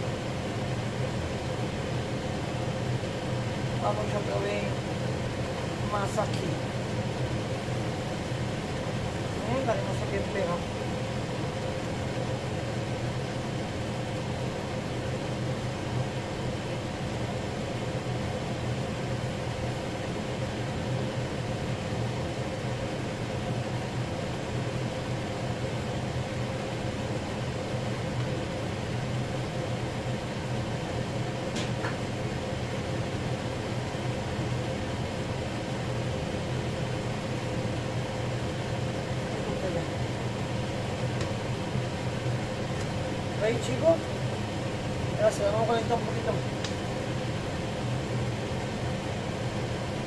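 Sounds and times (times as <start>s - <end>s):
fan motor humming: 0.0s - 50.0s.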